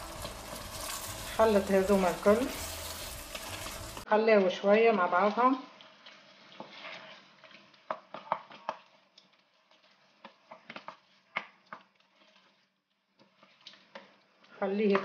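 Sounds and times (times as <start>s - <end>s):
wooden spoon scraping a pot: 0.0s - 4.0s, 5.3s - 15.0s
food sizzling: 0.0s - 15.0s.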